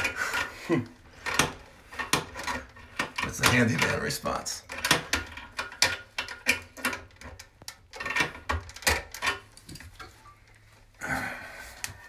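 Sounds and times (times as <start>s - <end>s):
plastic toilet valve clicking: 0.0s - 10.2s.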